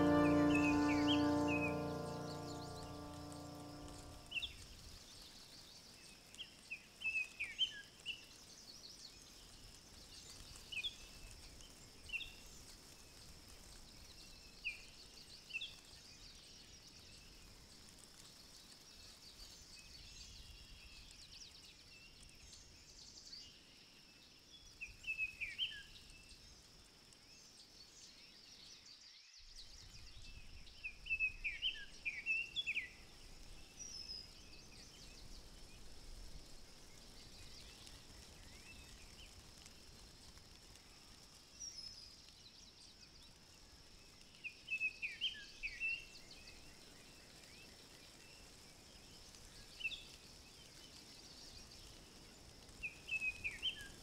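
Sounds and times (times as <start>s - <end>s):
faint high-pitched hiss: 0.0s - 54.0s.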